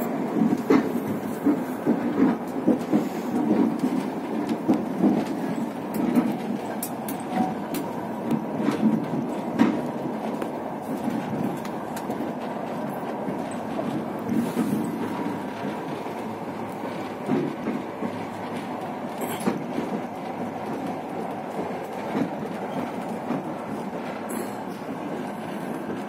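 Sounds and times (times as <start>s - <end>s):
railway carriage rumbling on rails: 0.0s - 26.0s.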